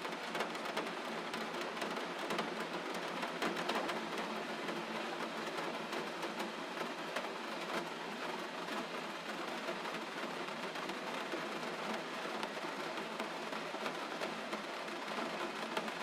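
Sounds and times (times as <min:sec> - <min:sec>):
gentle rain: 0:00.0 - 0:16.0.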